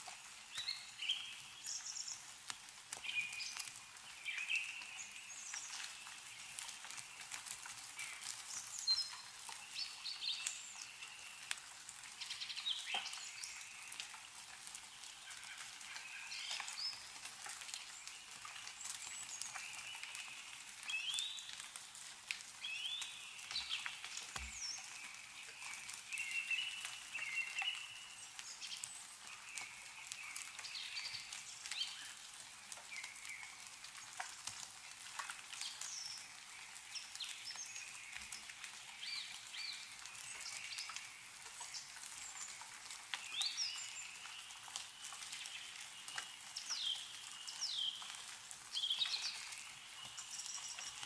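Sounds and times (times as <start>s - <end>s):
melting snow dripping: 0.0s - 51.0s
small birds chirping: 0.1s - 34.4s, 35.2s - 51.0s.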